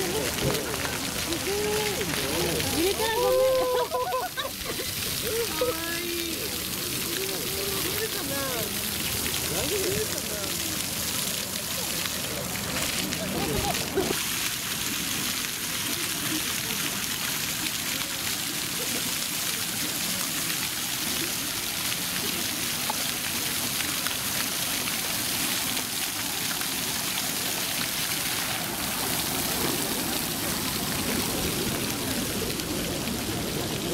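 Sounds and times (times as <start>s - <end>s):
fountain water splashing on paving: 0.0s - 33.9s.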